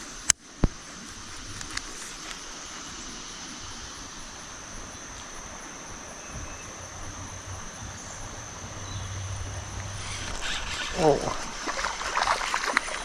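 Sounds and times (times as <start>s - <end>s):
continuous hiss: 0.0s - 13.0s
high-pitched insect drone: 0.8s - 13.0s.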